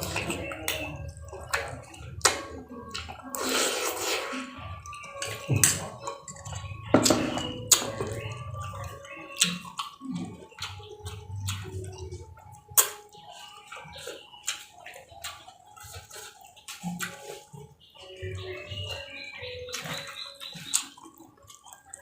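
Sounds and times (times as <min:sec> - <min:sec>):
wet chewing and lip smacks: 0:00.0 - 0:22.0.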